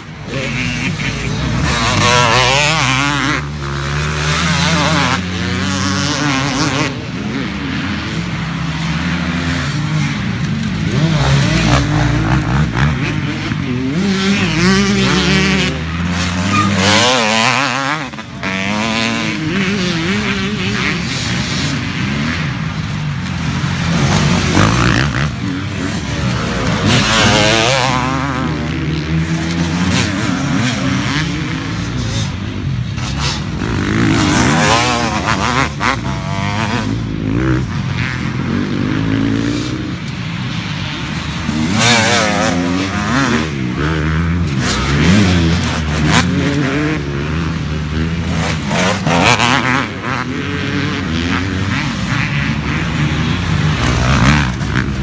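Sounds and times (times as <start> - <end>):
dirt bikes revving past: 0.0 - 55.0.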